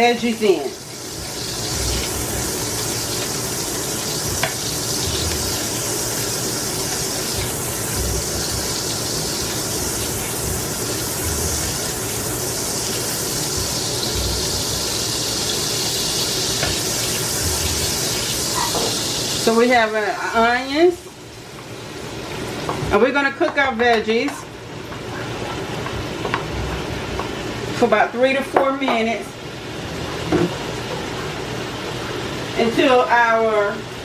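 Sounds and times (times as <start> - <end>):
food sizzling in a pan: 0.0 - 29.8.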